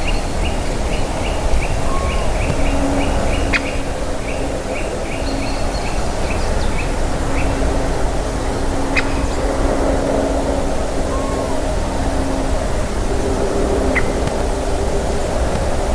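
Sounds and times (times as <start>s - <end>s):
loud background noise: 0.0s - 15.9s
steady low hum: 0.0s - 15.9s.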